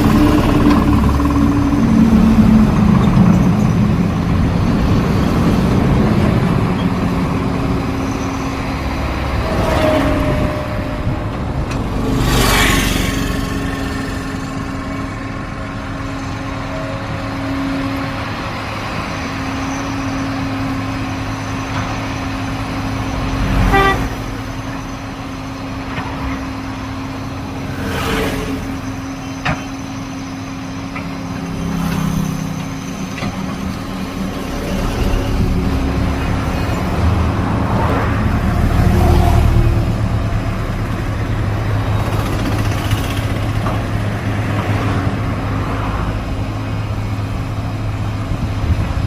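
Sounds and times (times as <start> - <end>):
vehicle engine humming: 0.0 - 49.0.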